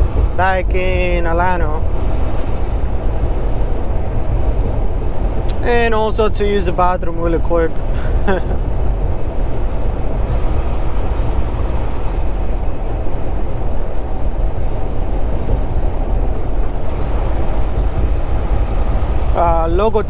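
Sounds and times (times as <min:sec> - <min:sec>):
road noise: 0:00.0 - 0:20.0
truck engine rumble: 0:00.0 - 0:20.0.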